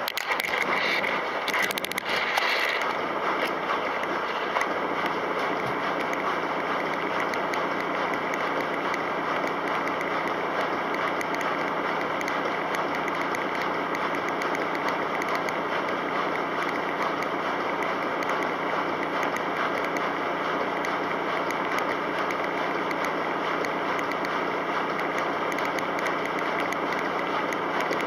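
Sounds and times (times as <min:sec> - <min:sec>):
washing machine running: 0:00.0 - 0:28.0.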